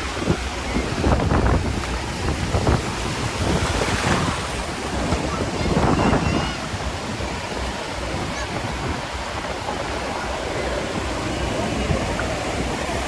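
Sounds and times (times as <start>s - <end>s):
faint voices: 0.0s - 13.0s
surf washing onto beach: 0.0s - 13.0s
wind buffeting microphone: 0.0s - 13.0s.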